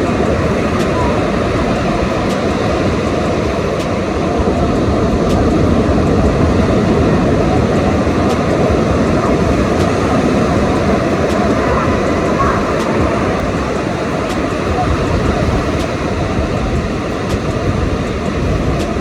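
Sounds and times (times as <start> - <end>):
rough surf: 0.0 - 19.0
wind buffeting microphone: 0.0 - 19.0
wind roaring: 0.0 - 19.0.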